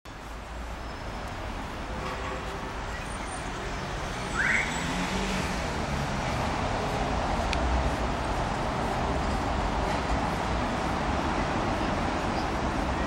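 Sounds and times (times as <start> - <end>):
road traffic rumble: 0.1 - 13.0.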